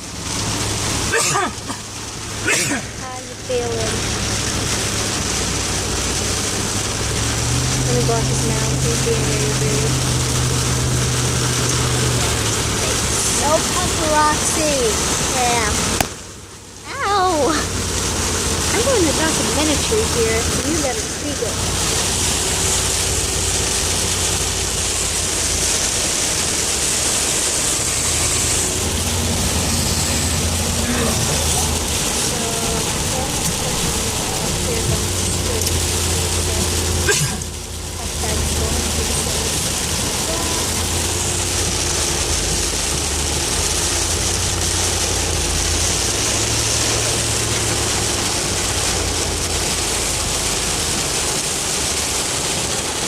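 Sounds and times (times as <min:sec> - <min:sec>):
car drone: 0:00.0 - 0:53.0
rain and wet road noise: 0:00.0 - 0:53.0.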